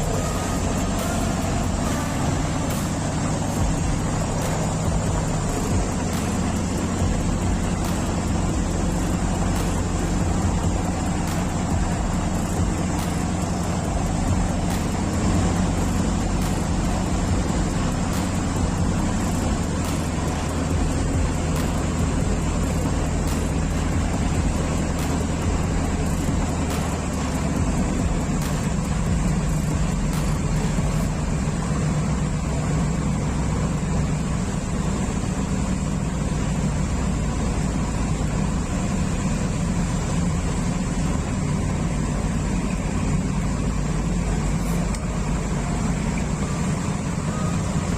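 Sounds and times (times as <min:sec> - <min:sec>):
boat engines humming: 0:00.0 - 0:47.9.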